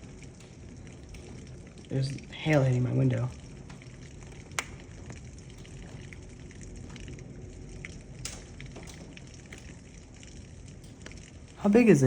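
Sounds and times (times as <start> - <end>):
hail ticking against a window: 0.0 - 12.0
heavy rain hissing: 0.0 - 12.0.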